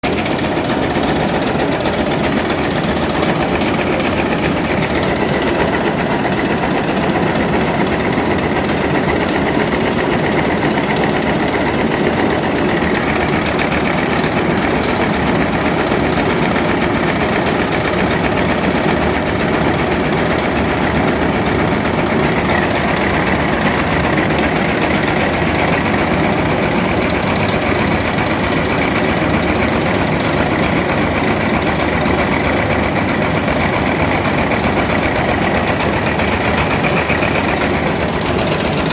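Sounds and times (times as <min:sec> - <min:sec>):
shredding machine mechanical din: 0:00.0 - 0:38.9.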